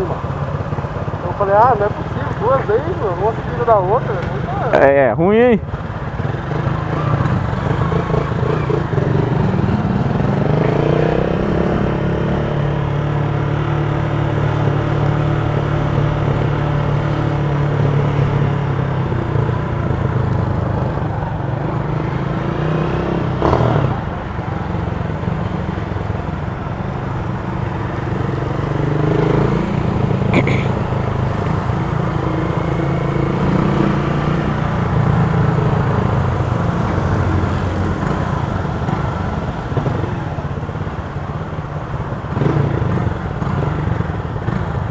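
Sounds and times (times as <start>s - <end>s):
road and wind noise: 0.0s - 44.9s.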